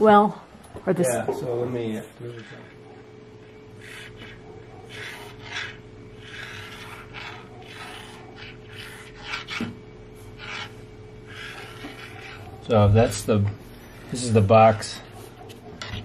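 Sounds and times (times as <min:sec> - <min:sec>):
marker pen scratching on board: 0:01.5 - 0:16.0.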